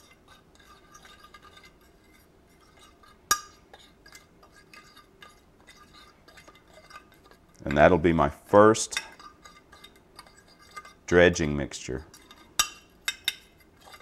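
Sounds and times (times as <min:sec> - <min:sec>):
fork scraping on glass: 0:00.0 - 0:07.8, 0:08.8 - 0:11.1, 0:12.1 - 0:14.0.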